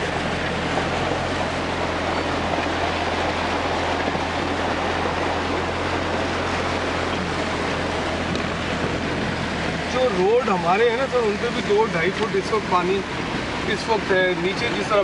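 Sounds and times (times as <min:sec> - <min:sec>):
engine and road noise in cabin: 0:00.0 - 0:15.0.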